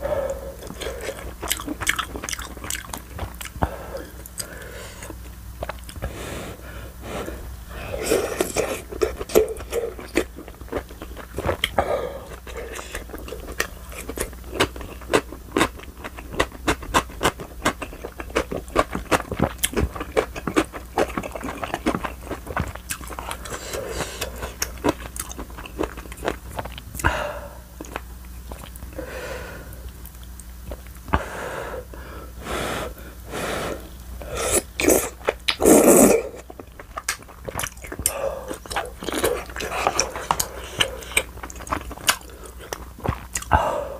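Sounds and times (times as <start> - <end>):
person chewing: 0.0 - 6.2, 7.1 - 31.2, 32.8 - 43.8.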